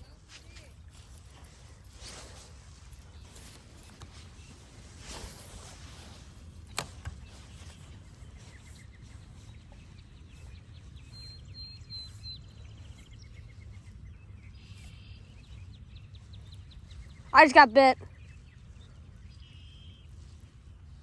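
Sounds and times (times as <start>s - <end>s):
faint bird chirps and trills: 0.0s - 21.0s.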